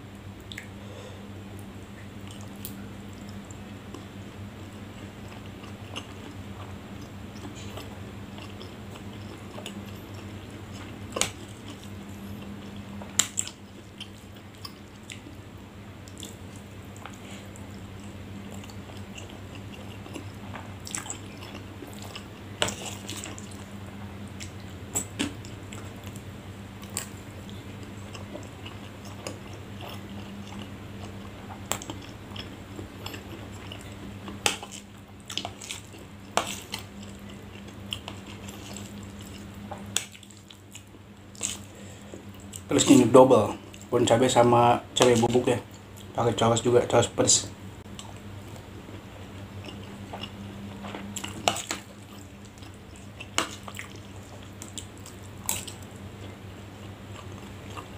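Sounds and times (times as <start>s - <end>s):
steady low hum: 0.0s - 57.9s
person chewing: 4.9s - 15.4s, 16.0s - 26.2s, 26.8s - 42.7s, 48.0s - 57.9s.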